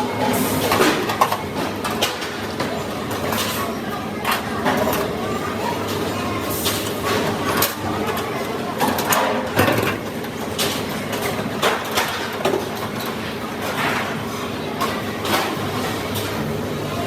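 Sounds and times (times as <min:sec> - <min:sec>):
workshop noise: 0:00.0 - 0:17.0.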